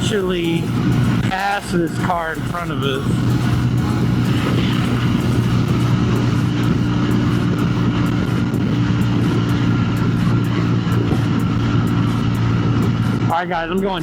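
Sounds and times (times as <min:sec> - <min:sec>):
motorcycle engine droning: 0:00.0 - 0:14.0
wind rushing over microphone: 0:00.0 - 0:14.0.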